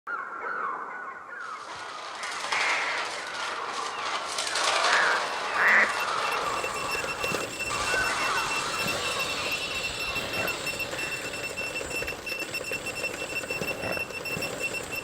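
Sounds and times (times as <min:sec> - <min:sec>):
birds squawking and cawing: 0:00.1 - 0:12.9
dense noisy background: 0:01.6 - 0:15.0.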